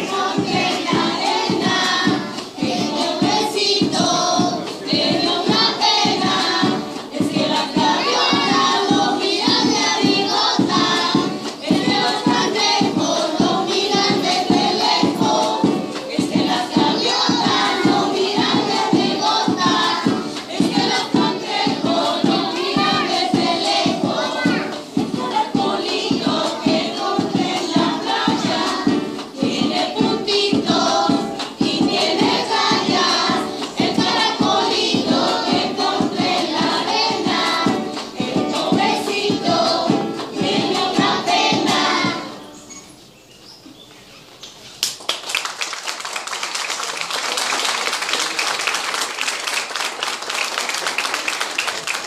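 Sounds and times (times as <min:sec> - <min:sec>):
group clapping: 0:00.0 - 0:42.0, 0:44.4 - 0:52.0
children singing in chorus: 0:00.0 - 0:42.6.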